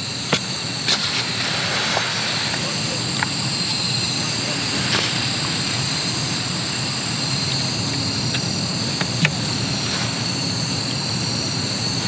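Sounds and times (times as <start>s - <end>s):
background hiss: 0.0s - 12.0s
crickets trilling: 0.0s - 12.0s.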